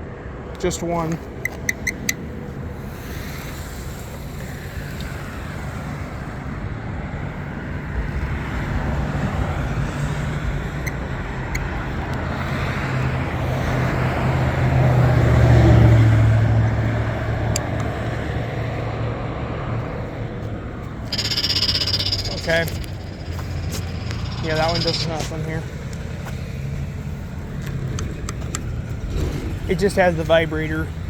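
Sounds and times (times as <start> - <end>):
road traffic passing: 0.0 - 31.0
vehicle engine rumble: 0.0 - 31.0.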